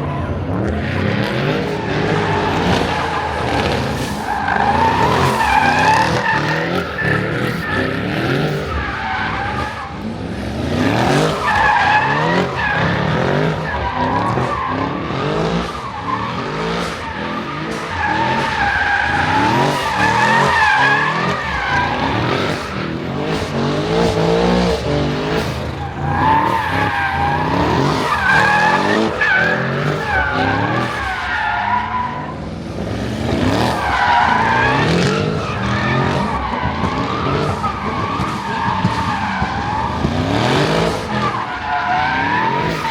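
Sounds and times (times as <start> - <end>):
car engines revving: 0.0 - 42.9
car tyres squealing: 0.0 - 42.9.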